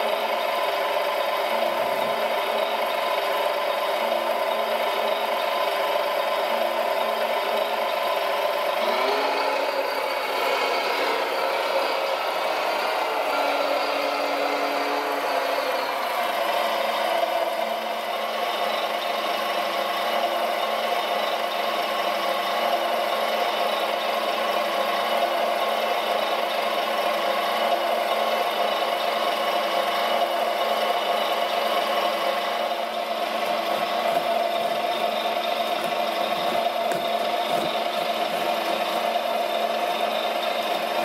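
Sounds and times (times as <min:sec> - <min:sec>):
toy loader motor whirring: 0:00.0 - 0:41.0.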